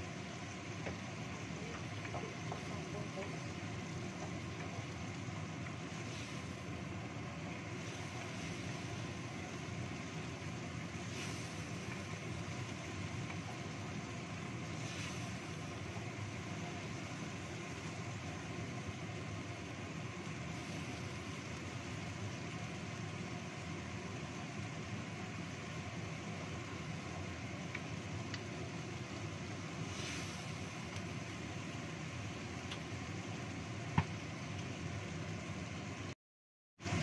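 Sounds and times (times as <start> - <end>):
paste sizzling in a wok: 0.0 - 36.0.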